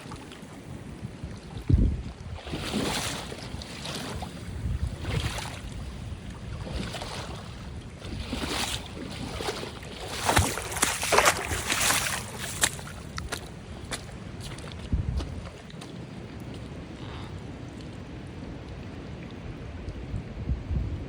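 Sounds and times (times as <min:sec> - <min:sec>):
sea waves splashing: 0:00.0 - 0:19.8
wind on microphone: 0:00.0 - 0:21.0.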